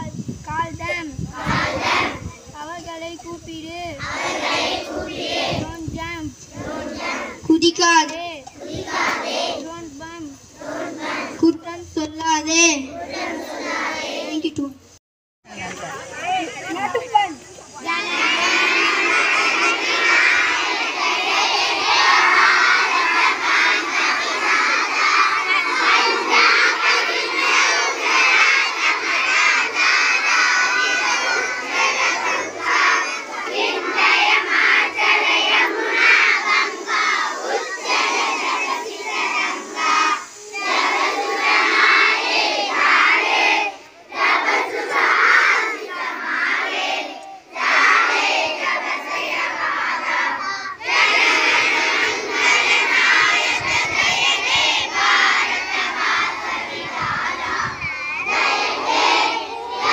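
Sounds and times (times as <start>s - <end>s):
children chanting: 0.9s - 2.5s, 3.9s - 7.6s, 8.4s - 11.5s, 12.7s - 14.5s, 17.7s - 59.9s.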